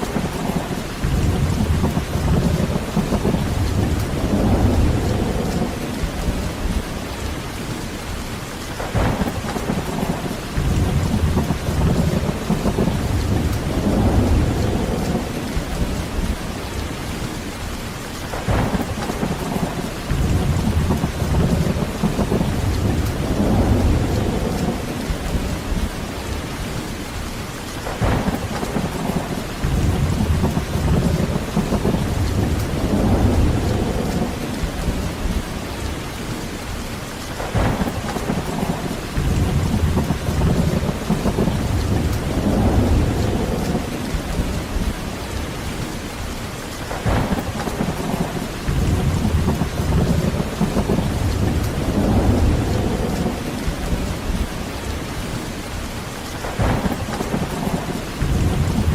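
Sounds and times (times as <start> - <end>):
heavy rain: 0.0 - 58.9
rolling thunder: 0.0 - 58.9.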